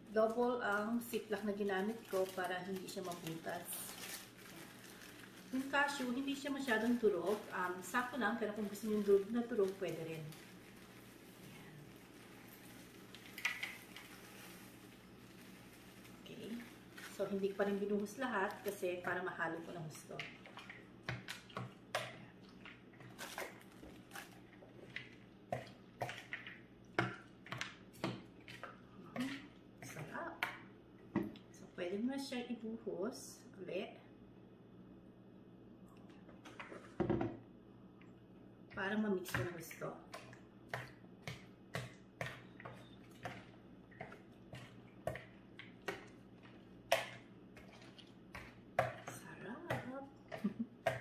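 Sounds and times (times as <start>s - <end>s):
wet squelching stirring: 0.0s - 31.6s, 38.0s - 51.0s.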